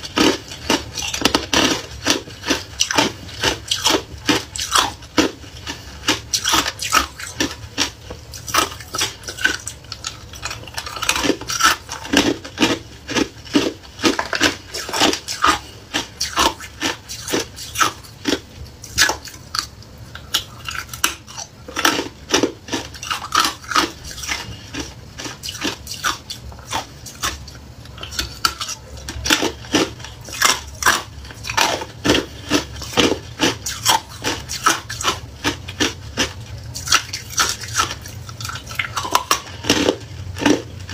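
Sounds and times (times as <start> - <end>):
ice crunching between teeth: 0.0 - 40.9.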